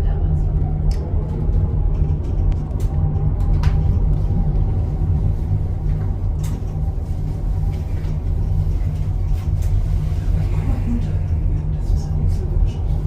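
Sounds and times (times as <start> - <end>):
vehicle low rumble: 0.0 - 13.0.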